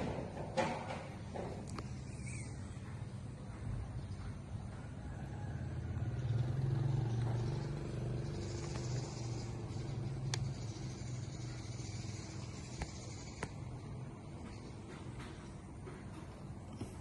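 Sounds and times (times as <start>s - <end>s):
engine humming: 1.2s - 17.0s.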